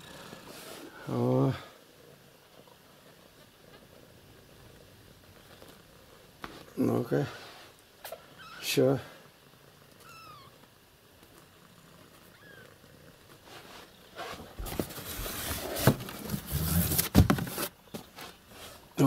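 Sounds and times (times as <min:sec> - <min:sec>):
rustling: 0:02.5 - 0:08.7, 0:09.9 - 0:19.0.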